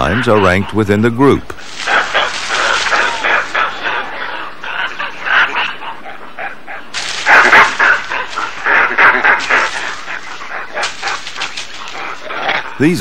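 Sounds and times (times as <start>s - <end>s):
monkeys calling in a squabble: 0.0s - 13.0s.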